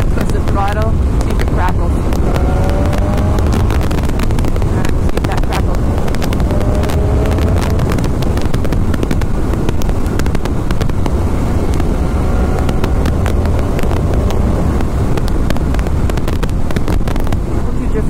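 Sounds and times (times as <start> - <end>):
motorcycle engine: 0.0 - 17.8
sharp microphone crackles: 0.0 - 18.0
wind noise: 0.0 - 18.0.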